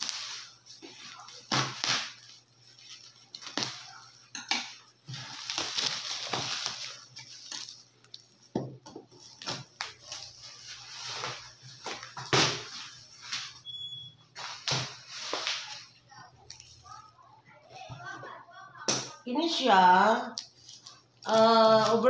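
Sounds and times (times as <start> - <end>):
bubble wrap rustling and crackling: 0.0 - 18.6, 19.6 - 22.0.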